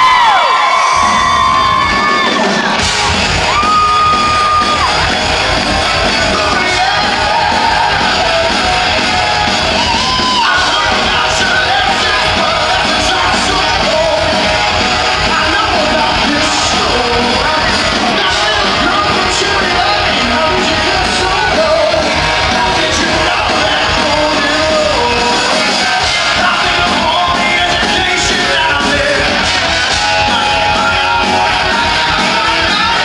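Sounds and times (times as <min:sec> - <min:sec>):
drums: 0:00.0 - 0:33.0
person singing and shouting: 0:01.0 - 0:33.0.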